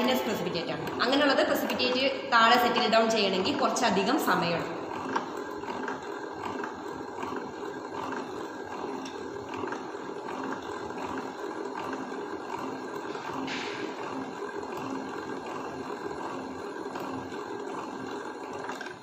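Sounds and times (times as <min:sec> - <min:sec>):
hand-cranked centrifuge whirring: 0:00.0 - 0:19.0.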